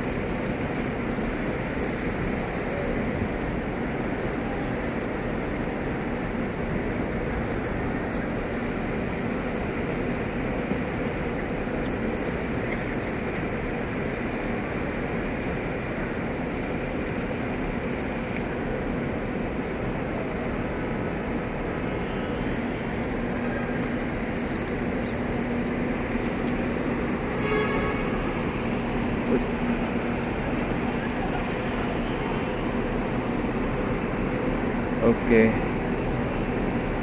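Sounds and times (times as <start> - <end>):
faint steady hum: 0.0 - 37.0
rumbling hiss: 0.0 - 37.0.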